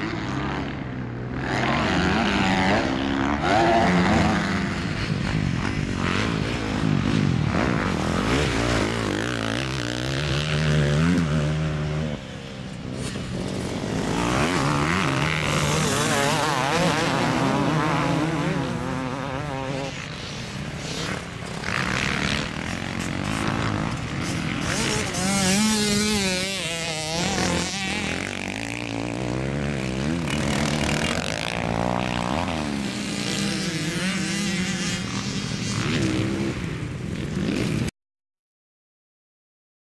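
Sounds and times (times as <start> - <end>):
motorcycle engines revving: 0.0 - 37.9.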